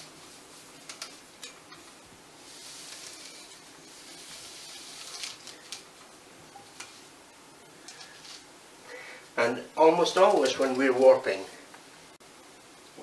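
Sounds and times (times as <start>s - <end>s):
yarn hissing over a bar: 0.0s - 11.6s.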